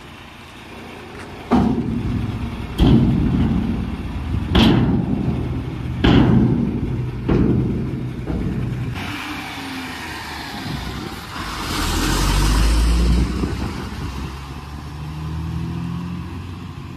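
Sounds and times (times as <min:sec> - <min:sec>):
truck diesel engine passing: 0:00.0 - 0:16.9.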